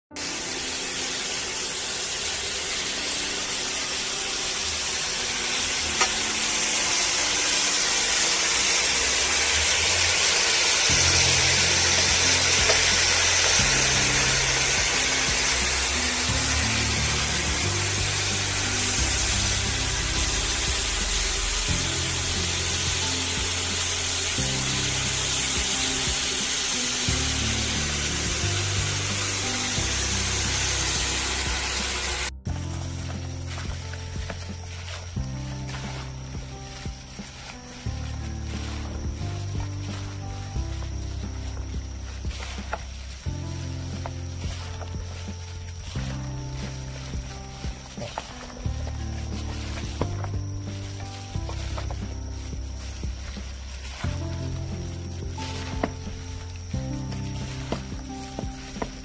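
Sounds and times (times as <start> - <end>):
background music with bass: 0.0 - 59.0
pork sizzling in a pan: 0.1 - 59.0.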